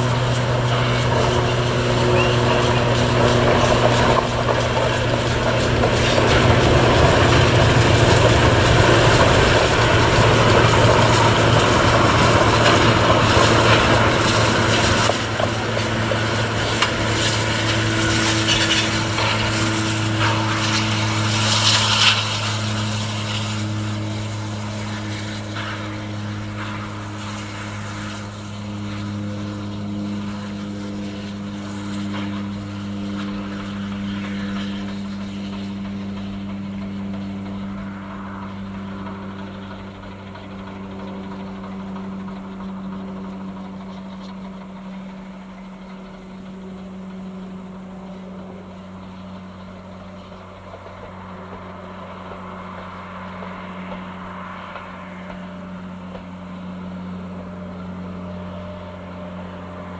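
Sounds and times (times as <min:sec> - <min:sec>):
low engine hum: 0:00.0 - 0:59.9
steam train rumbling past: 0:00.0 - 0:59.9.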